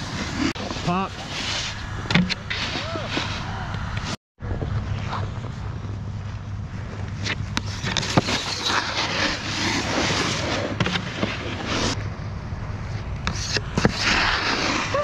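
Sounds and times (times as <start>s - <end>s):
snowboard scraping snow: 0.0s - 6.3s, 6.9s - 12.0s, 13.3s - 15.0s.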